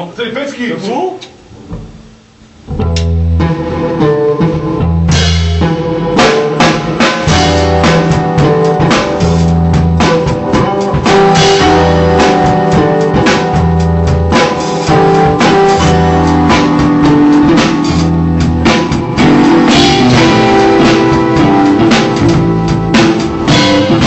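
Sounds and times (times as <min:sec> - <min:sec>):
drum kit: 0:01.2 - 0:24.0
guitar: 0:01.3 - 0:24.0
low held bass notes: 0:01.4 - 0:24.0.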